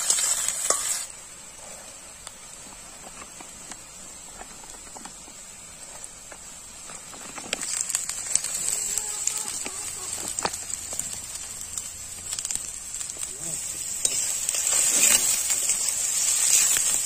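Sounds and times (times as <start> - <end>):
hot oil sizzling in a wok: 0.0 - 17.0
oil crackling and spitting: 1.9 - 17.0.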